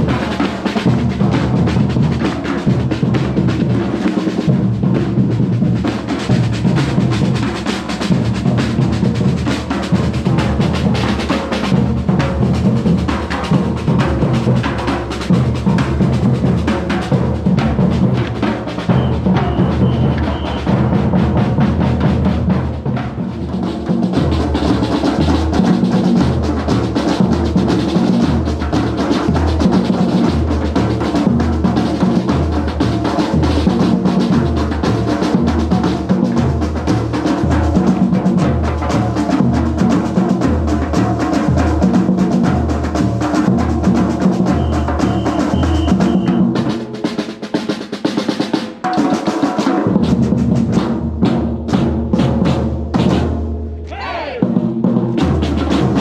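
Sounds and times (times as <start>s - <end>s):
bass drums: 0.0s - 46.8s, 49.8s - 56.0s
snare drums: 0.0s - 56.0s.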